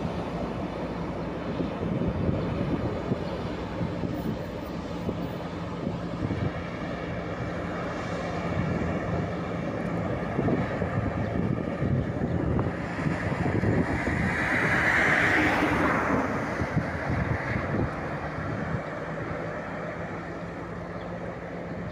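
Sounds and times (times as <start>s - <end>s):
diesel locomotive engine humming: 0.0s - 21.9s.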